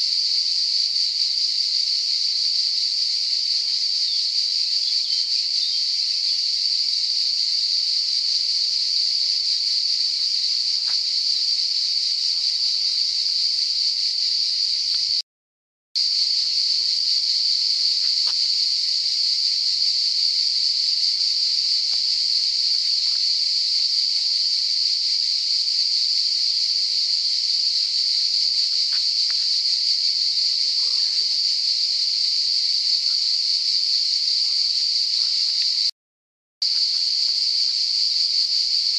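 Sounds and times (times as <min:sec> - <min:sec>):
insects buzzing: 0:00.0 - 0:15.2, 0:16.0 - 0:35.9, 0:36.6 - 0:38.9.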